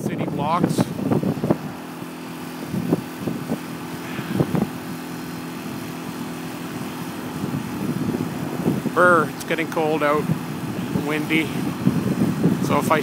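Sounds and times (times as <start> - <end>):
road traffic engine hum: 0.0 - 13.0.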